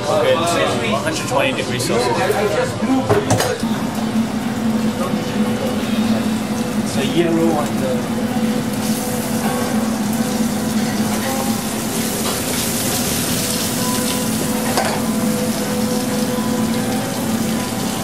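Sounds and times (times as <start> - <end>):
constant low hum: 3.4 - 18.0.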